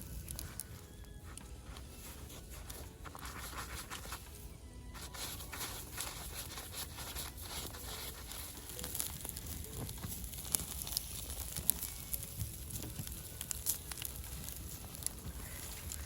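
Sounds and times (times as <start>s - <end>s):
onion sizzling in fat: 0.0s - 16.0s.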